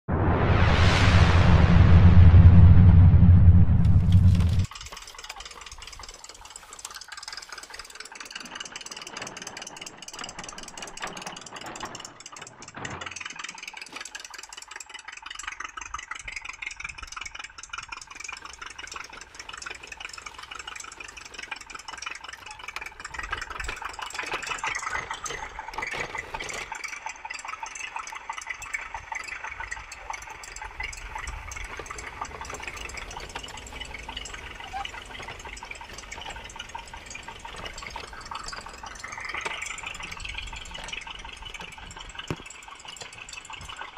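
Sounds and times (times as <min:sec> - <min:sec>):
tractor engine running: 0:02.2 - 0:43.9.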